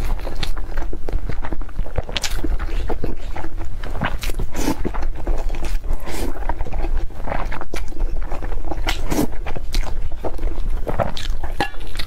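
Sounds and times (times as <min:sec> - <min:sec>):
wet chewing and mouth smacking: 0:00.0 - 0:12.0.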